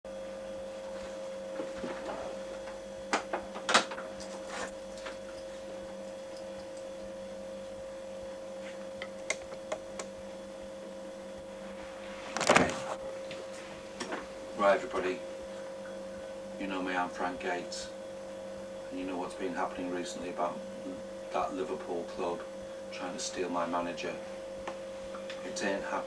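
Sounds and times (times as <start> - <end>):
steady electrical hum: 0.1 - 26.0.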